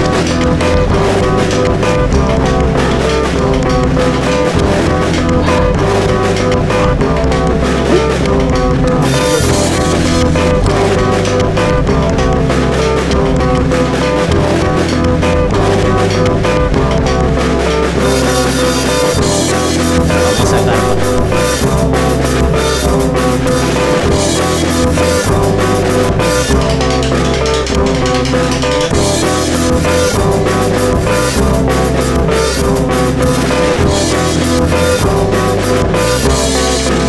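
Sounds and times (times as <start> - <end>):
rock music: 0.0 - 37.0.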